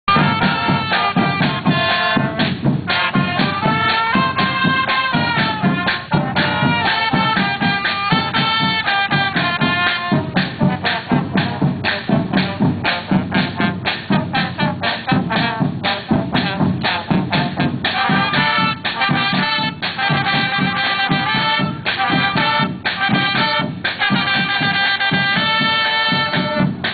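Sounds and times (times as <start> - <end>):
marching drums beat: 0.0 - 26.9
trumpets and trombones melody: 0.1 - 26.9.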